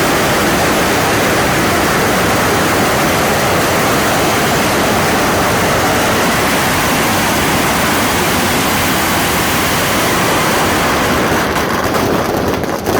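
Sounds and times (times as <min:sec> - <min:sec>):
firework hissing: 0:00.0 - 0:12.9.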